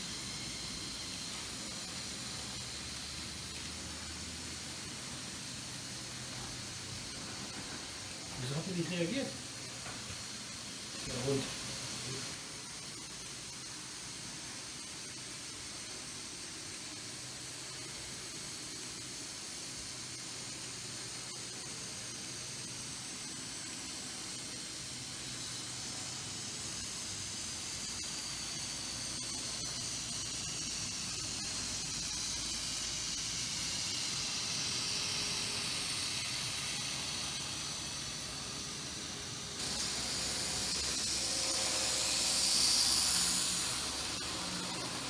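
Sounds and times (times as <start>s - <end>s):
model train motors whining: 0.0s - 45.0s.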